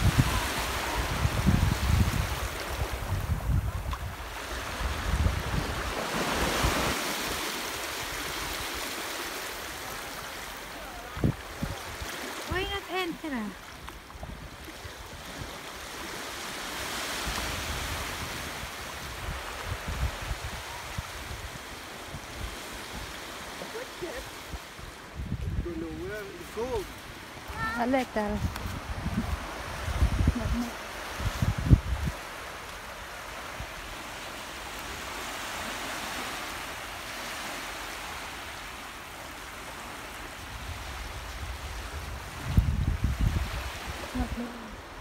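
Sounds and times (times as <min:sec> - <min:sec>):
sea waves washing over sand: 0:00.0 - 0:45.0.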